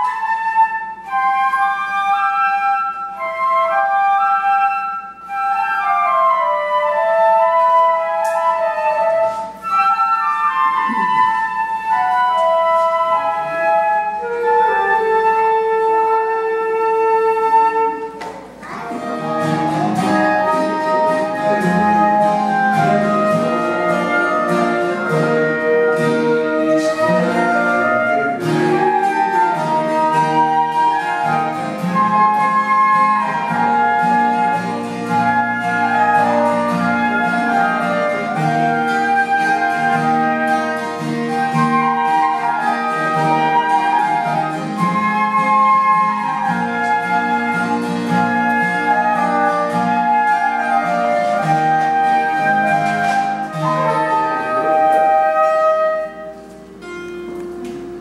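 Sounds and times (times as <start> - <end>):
flutes playing a melody: 0.0 - 58.0
strummed acoustic guitar: 7.3 - 58.0.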